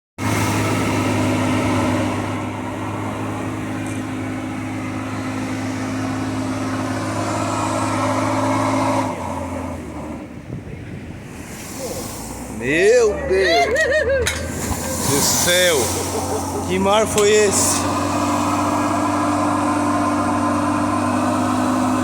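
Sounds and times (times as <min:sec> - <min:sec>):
boat engine running: 0:00.2 - 0:22.0
broad rushing noise: 0:00.2 - 0:22.0.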